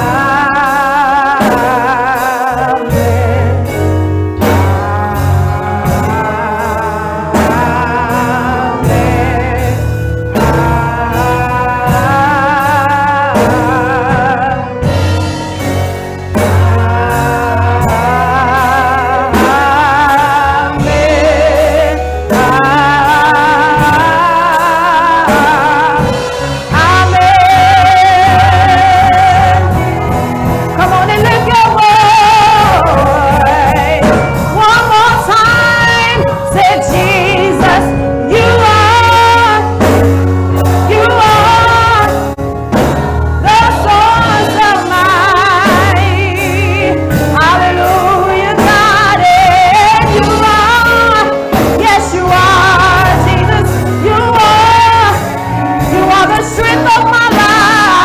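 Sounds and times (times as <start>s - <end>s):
instrumental accompaniment with bass: 0.0s - 58.0s
woman singing gospel: 0.0s - 58.0s.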